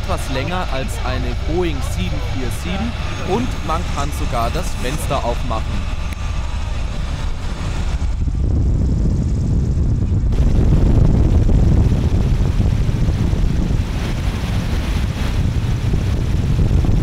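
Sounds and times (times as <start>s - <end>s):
propeller engines droning: 0.0s - 17.0s
wind rushing through window: 0.0s - 17.0s.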